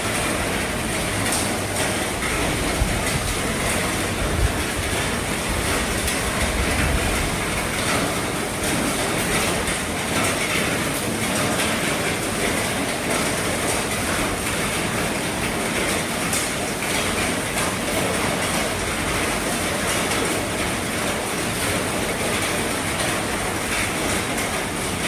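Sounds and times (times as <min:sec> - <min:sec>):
heavy rain on a roof: 0:00.0 - 0:25.0.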